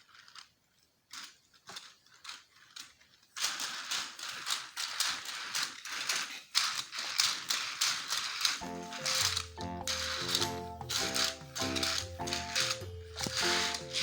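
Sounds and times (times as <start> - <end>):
toy cars clicking and rattling: 0.0 - 14.0.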